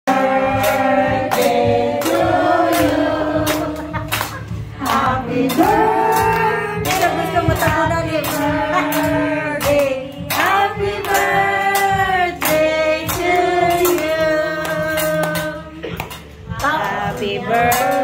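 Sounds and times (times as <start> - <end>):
women and children singing: 0.1 - 4.1, 4.7 - 18.0
music playing: 0.1 - 18.0
hand clapping: 0.5 - 18.0.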